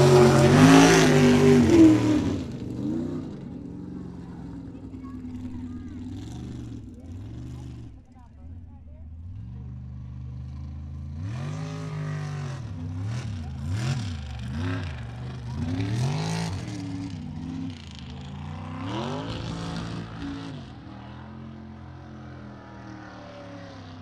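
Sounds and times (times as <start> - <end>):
truck engine idling and revving: 0.0 - 24.0.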